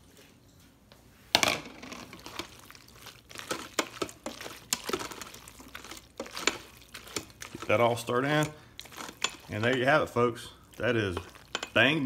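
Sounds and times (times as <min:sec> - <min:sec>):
spoon stirring pasta: 0:01.9 - 0:12.0.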